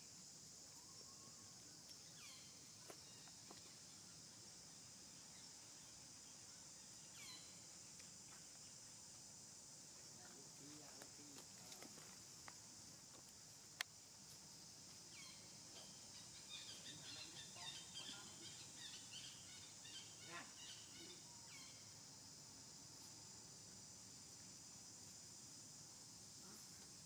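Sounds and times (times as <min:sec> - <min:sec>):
high insect-like hiss: 0:00.0 - 0:27.0.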